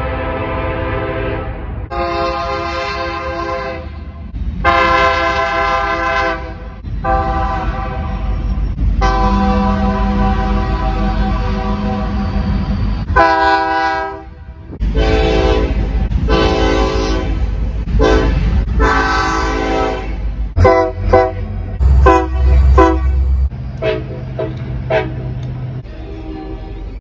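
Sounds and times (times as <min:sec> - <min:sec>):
train horn blasts: 0:00.0 - 0:27.0.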